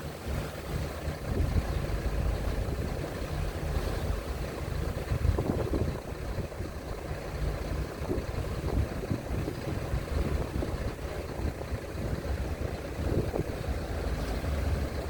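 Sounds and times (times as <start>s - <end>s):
ship engines rumbling: 0.0s - 15.0s
wind buffeting microphone: 0.0s - 15.0s.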